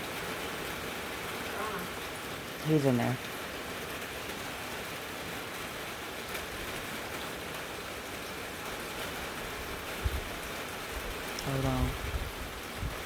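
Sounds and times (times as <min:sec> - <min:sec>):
rain hissing: 0:00.0 - 0:13.0
wind: 0:00.0 - 0:13.0.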